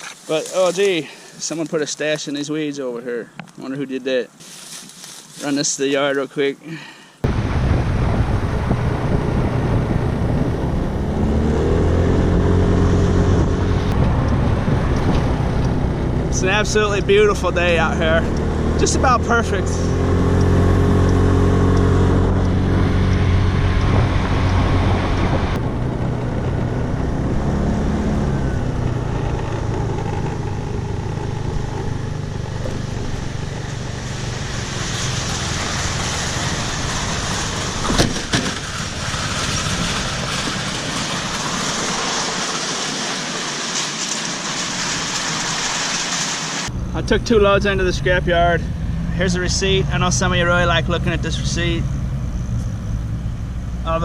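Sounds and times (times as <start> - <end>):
road and wind noise: 0.0 - 54.0
vehicle engine drone: 7.2 - 54.0.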